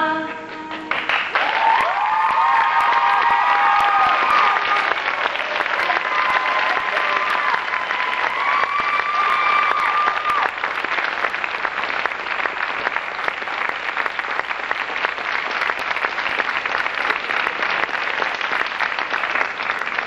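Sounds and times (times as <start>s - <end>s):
audience applauding: 0.7s - 20.0s.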